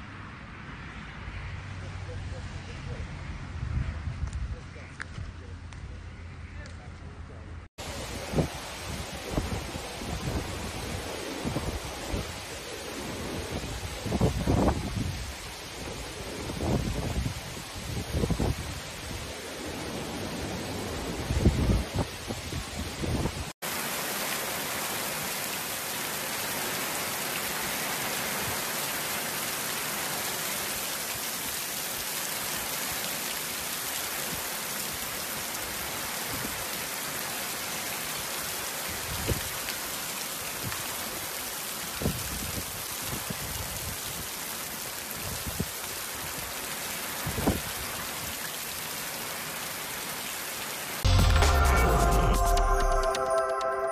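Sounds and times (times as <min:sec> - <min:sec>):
heavy rain pouring: 0:07.8 - 0:53.9.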